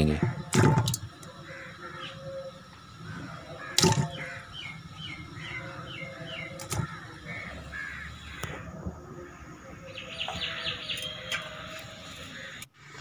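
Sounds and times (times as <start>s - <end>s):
bird chirping: 0.0s - 12.6s.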